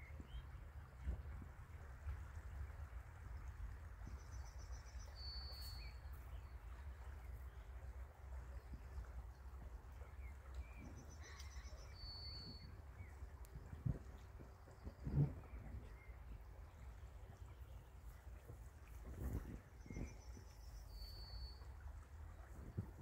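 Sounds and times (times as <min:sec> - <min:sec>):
low rumble and hiss: 0:00.0 - 0:23.0.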